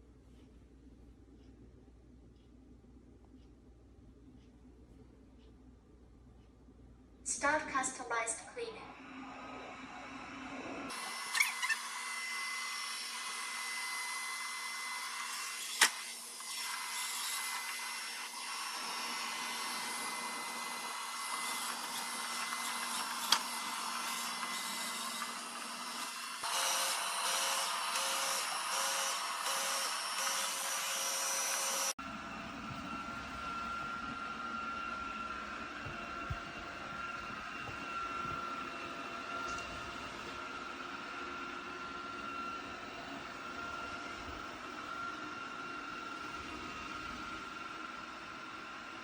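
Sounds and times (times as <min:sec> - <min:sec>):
robot vacuum whirring: 0:08.9 - 0:49.0.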